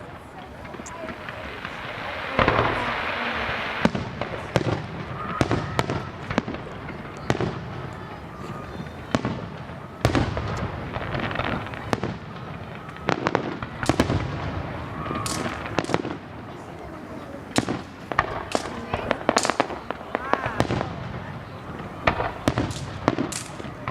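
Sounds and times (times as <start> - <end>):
fireworks banging and popping: 0.0 - 23.9.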